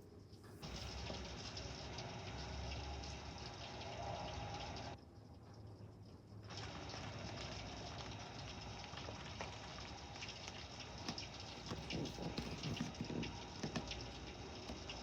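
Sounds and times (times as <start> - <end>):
heavy rain: 0.6 - 5.0, 6.5 - 15.0
raindrops pattering on surfaces: 0.6 - 15.0.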